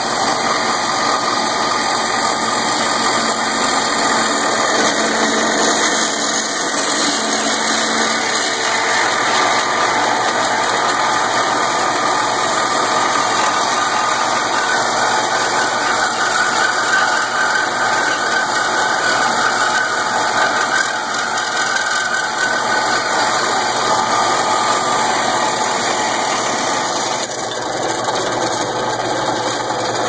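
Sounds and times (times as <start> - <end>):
band saw cutting metal tubing: 0.0 - 30.0.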